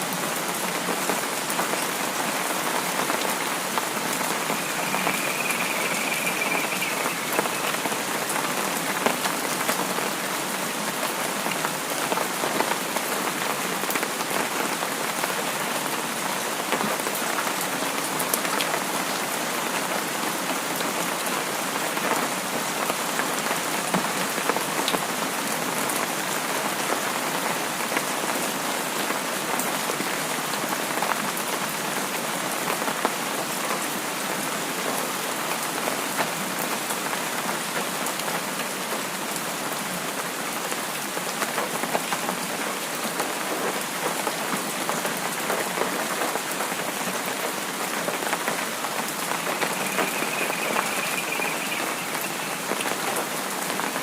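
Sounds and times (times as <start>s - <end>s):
rain drops pattering: 0.0s - 54.0s.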